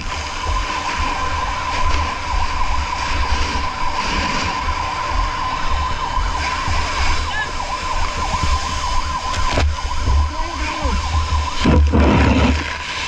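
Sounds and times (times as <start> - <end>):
emergency vehicle sirens warbling: 0.0 - 13.0
steady low rumble: 0.0 - 13.0.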